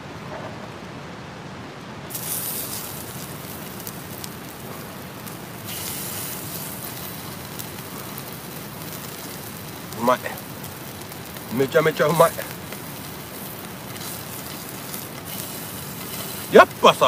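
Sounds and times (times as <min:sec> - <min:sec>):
beef sizzling in a frying pan: 0:02.1 - 0:17.0.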